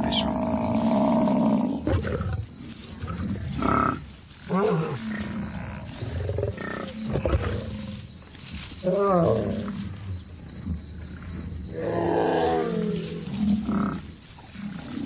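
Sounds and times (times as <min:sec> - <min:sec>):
lions growling: 0:00.0 - 0:15.0.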